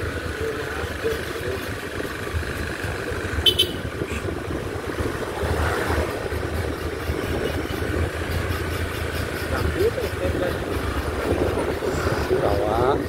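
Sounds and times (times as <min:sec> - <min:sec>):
motorcycle riding: 0:00.0 - 0:13.0.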